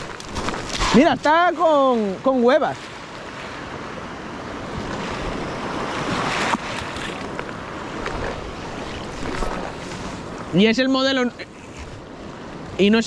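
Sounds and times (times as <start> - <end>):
small waves washing over rocks: 0.0 - 10.8.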